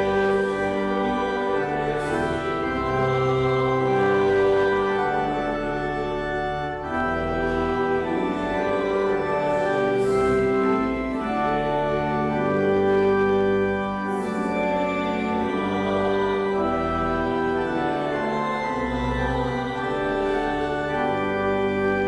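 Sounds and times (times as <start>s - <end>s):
church organ playing a hymn: 0.0s - 22.0s.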